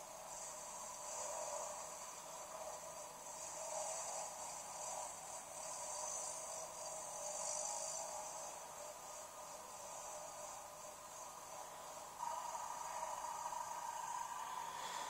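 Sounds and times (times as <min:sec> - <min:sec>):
steady hiss: 0:00.0 - 0:15.0
wavering rush of noise: 0:00.0 - 0:15.0.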